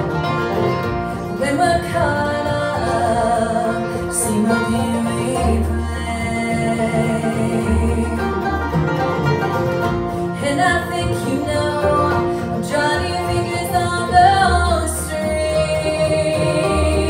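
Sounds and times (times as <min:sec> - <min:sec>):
acoustic guitar: 0:00.0 - 0:17.0
banjo: 0:00.0 - 0:17.0
mandolin: 0:00.0 - 0:17.0
upright bass: 0:00.0 - 0:17.0
woman singing: 0:01.3 - 0:08.6, 0:10.4 - 0:17.0.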